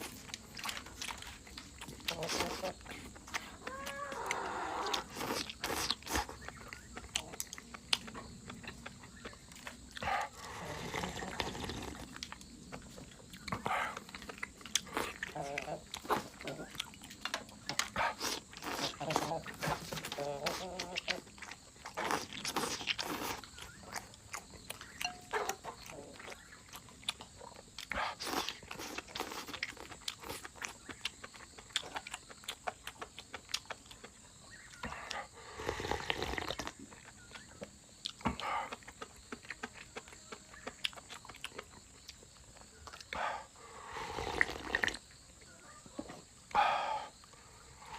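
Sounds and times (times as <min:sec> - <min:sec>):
person chewing and biting food: 0:00.0 - 0:35.2, 0:36.1 - 0:43.2.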